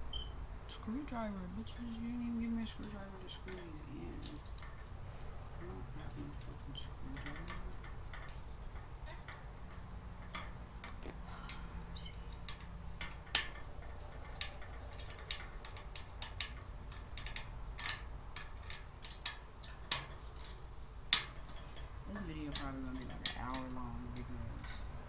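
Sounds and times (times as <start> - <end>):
cart parts clicking and clinking: 0.9 - 25.0.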